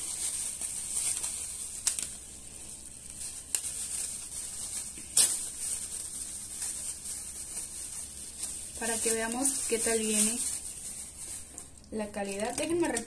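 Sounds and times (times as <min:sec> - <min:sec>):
plastic bag crinkling: 0:00.0 - 0:13.0
steady background hiss: 0:00.0 - 0:13.0.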